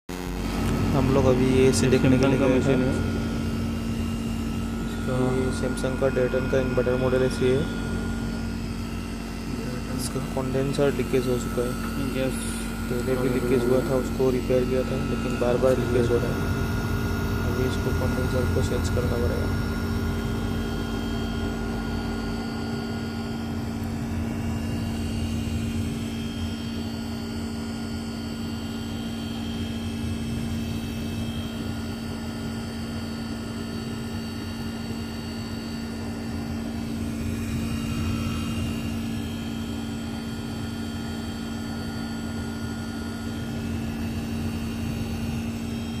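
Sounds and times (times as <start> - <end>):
air conditioner humming: 0.1 - 46.0.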